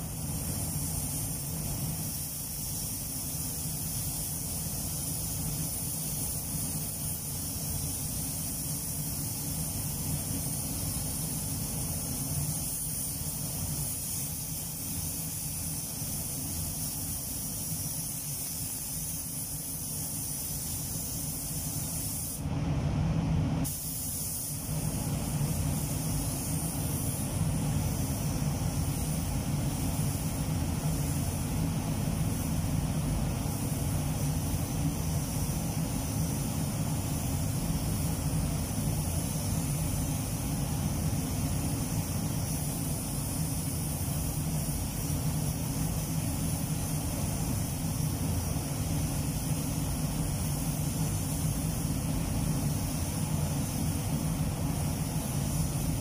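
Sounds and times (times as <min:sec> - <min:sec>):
air spray gun hissing: 0:00.0 - 0:22.5, 0:23.6 - 0:56.0
spray booth ventilation noise: 0:00.0 - 0:56.0.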